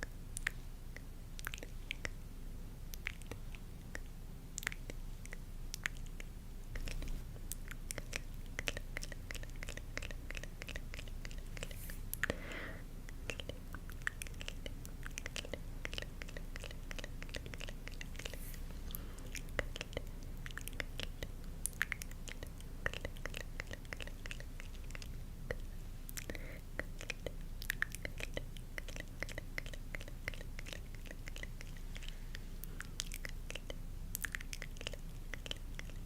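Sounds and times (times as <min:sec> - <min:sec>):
soft hiss: 0:00.0 - 0:36.0.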